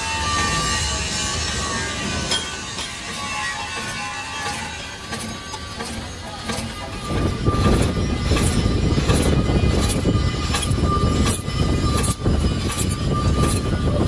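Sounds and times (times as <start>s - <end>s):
metal lathe rumbling: 0.0s - 14.0s
rhythmic lathe clatter: 0.0s - 14.0s
thin steady whine: 0.0s - 14.0s.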